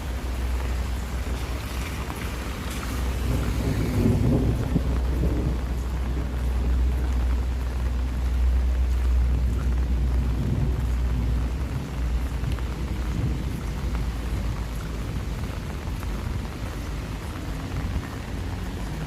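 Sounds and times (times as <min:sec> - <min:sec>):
steady rain falling: 0:00.0 - 0:19.0
ticks of raindrops: 0:00.0 - 0:19.0
deep low rumble: 0:02.7 - 0:19.0.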